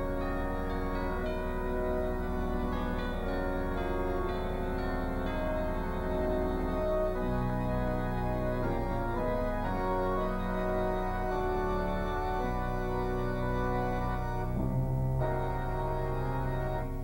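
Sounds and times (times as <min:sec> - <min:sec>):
background music of held chords: 0:00.0 - 0:17.0.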